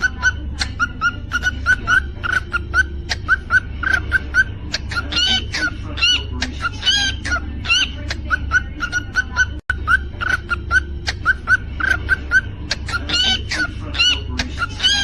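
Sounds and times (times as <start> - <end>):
cockatiel chirping: 0.0 - 15.0.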